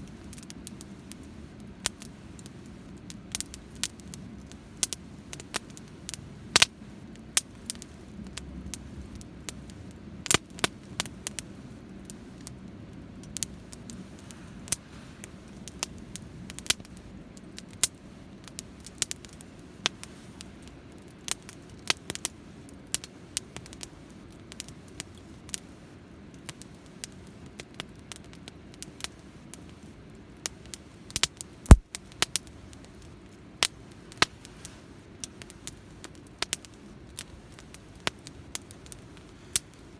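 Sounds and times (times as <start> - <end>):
campfire crackling and popping: 0.0 - 39.9
low rush of flames: 0.0 - 39.9.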